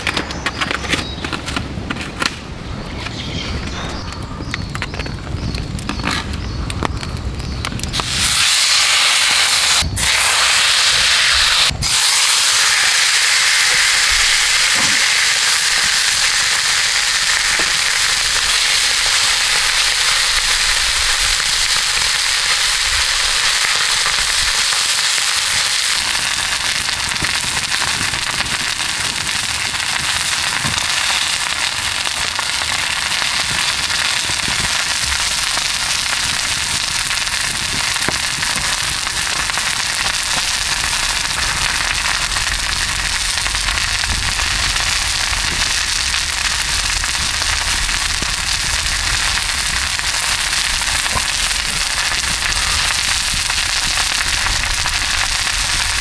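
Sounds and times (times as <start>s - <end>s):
steak sizzling in frying pan: 8.0s - 56.0s.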